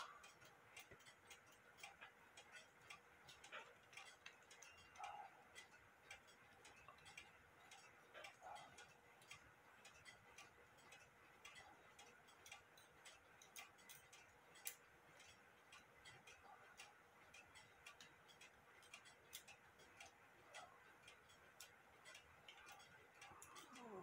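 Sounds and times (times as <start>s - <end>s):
clockwork ticking and clicking: 0.0s - 24.0s.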